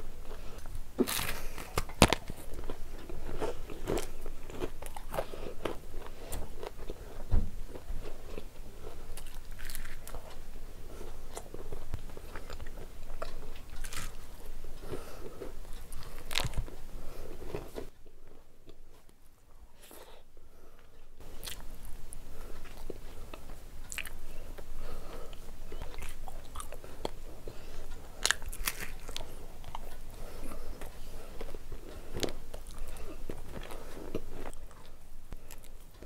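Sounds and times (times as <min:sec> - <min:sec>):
wet chewing: 0:00.3 - 0:17.9, 0:21.2 - 0:35.8
crunching: 0:00.3 - 0:18.4, 0:21.3 - 0:36.0.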